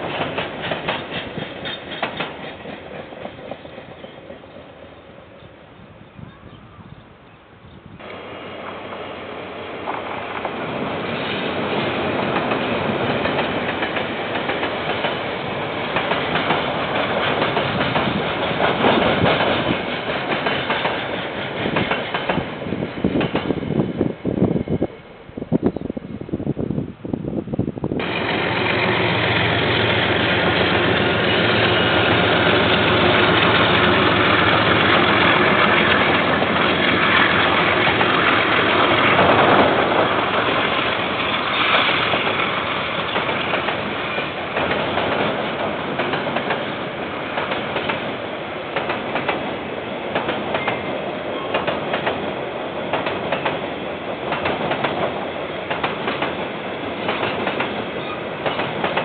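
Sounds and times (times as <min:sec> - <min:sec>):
train wheels clickety-clack: 0:00.0 - 0:04.7, 0:09.8 - 0:23.7, 0:28.0 - 0:59.0
diesel locomotive engine: 0:00.0 - 0:26.4, 0:27.8 - 0:59.0.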